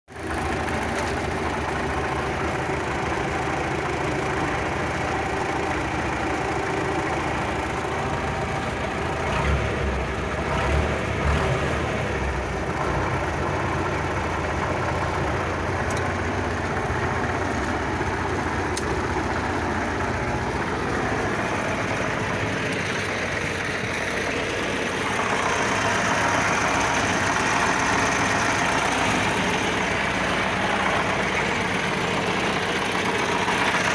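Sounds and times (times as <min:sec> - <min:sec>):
tractor diesel knocking: 0:00.1 - 0:33.9.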